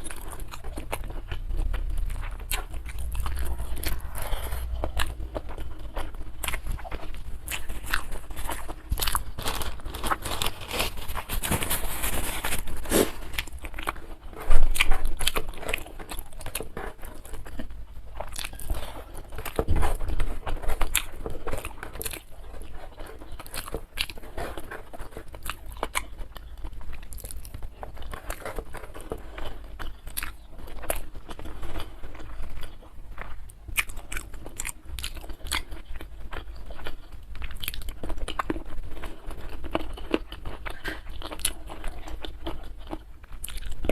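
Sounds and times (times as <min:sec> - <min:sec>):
chewing crunchy food: 0:00.0 - 0:43.9.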